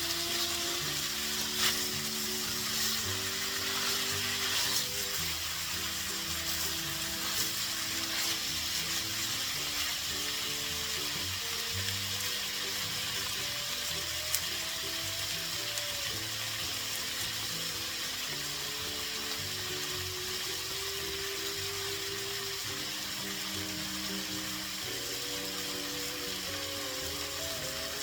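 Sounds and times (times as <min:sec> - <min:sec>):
background music: 0:00.0 - 0:28.0
food sizzling in a frying pan: 0:00.0 - 0:28.0.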